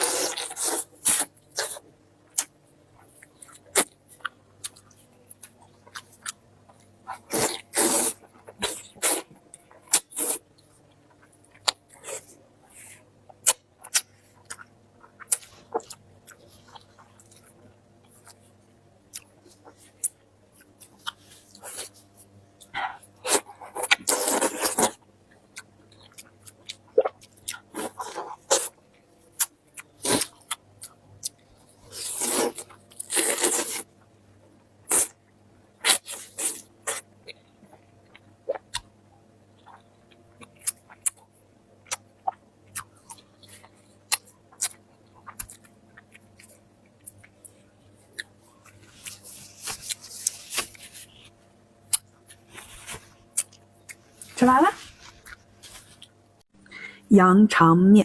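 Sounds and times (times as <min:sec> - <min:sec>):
person chewing and crunching food: 0:00.0 - 0:57.0
faint steady hum: 0:00.0 - 0:58.0.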